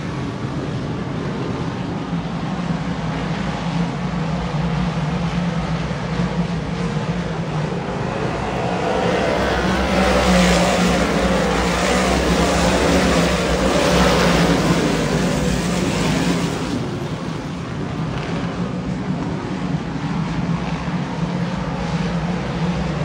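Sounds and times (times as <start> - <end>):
race car engines droning: 0.0 - 23.0.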